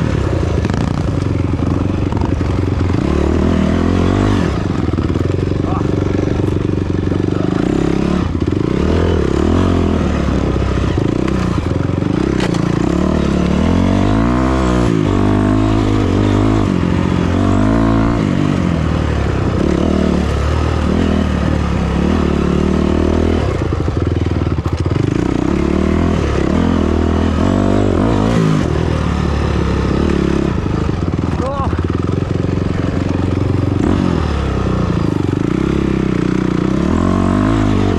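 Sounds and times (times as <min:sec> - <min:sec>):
off-road vehicle engine revving: 0:00.0 - 0:37.9.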